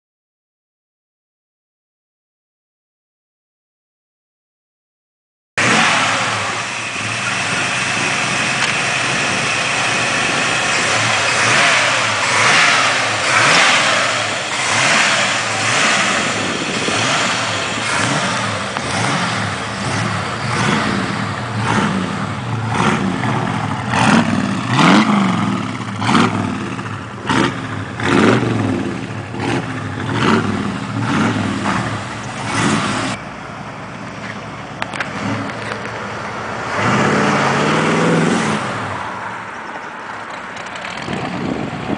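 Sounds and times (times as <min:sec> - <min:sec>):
pickup engine revving: 0:05.6 - 0:41.9.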